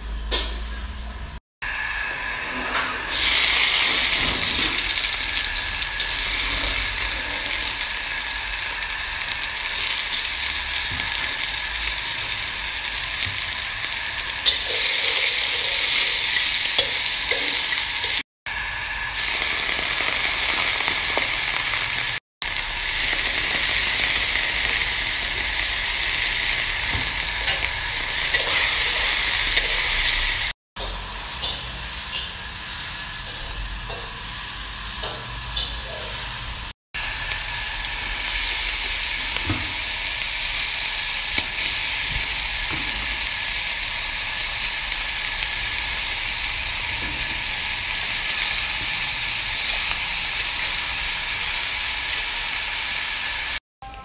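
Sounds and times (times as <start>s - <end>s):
vegetables sizzling in a wok: 1.6s - 53.6s.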